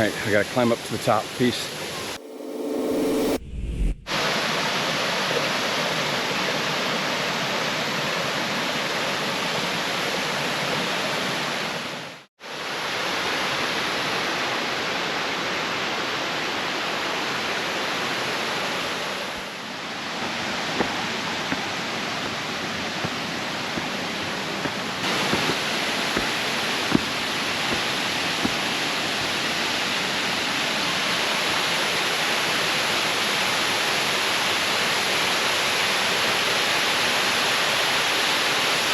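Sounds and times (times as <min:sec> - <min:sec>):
waterfall roaring: 0:04.1 - 0:38.9.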